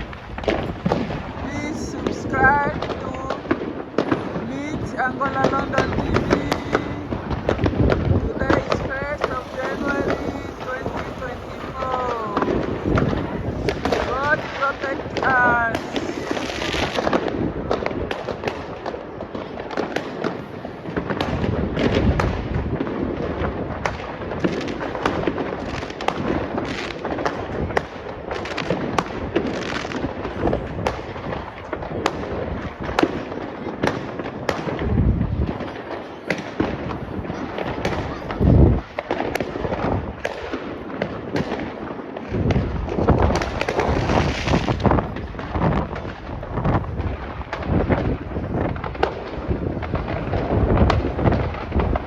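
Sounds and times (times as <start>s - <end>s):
deep firework booms: 0.0s - 52.0s
fireworks crackling pops: 0.0s - 52.0s.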